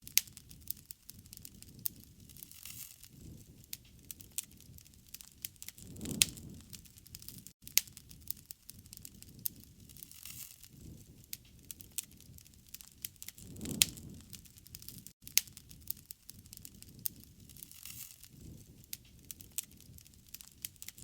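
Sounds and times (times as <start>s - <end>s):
campfire crackling and popping: 0.0s - 21.0s
low rush of flames: 0.4s - 21.0s.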